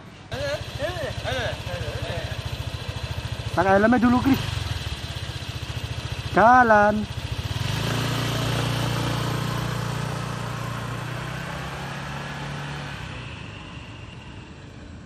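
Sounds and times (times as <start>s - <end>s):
motor scooter engine humming: 0.1s - 15.0s.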